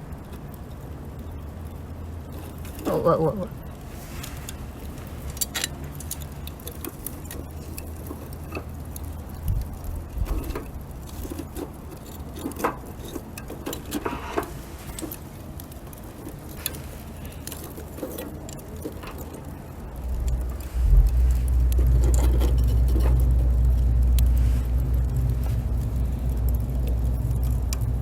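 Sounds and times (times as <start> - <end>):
bonfire crackling and popping: 0.0 - 28.0
wind rumble on microphone: 3.5 - 17.6, 18.8 - 28.0.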